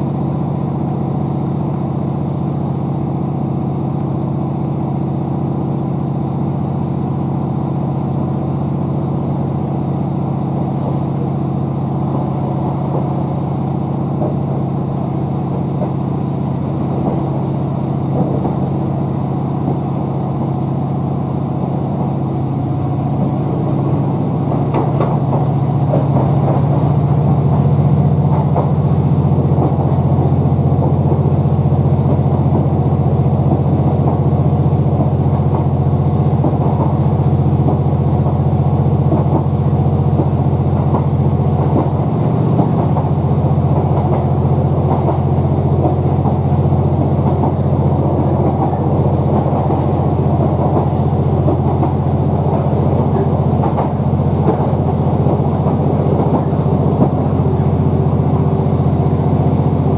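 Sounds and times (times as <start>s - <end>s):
diesel engine droning: 0.0s - 59.9s
train wheels rumbling on rails: 0.0s - 59.9s.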